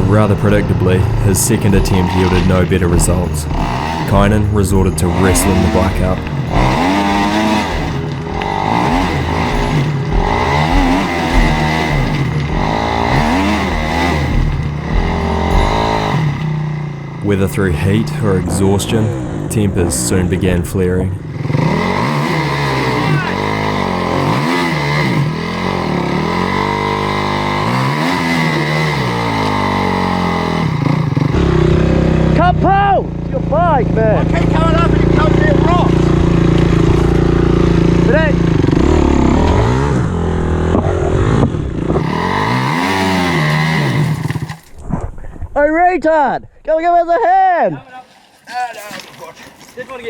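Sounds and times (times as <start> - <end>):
dirt bike engine revving: 0.0 - 44.8.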